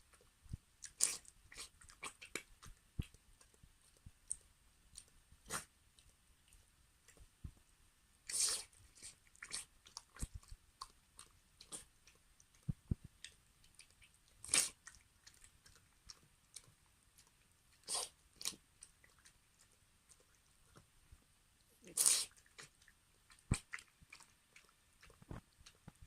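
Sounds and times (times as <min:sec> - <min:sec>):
dog chewing and crunching food: 0:00.0 - 0:07.2, 0:08.3 - 0:20.9, 0:21.7 - 0:26.0.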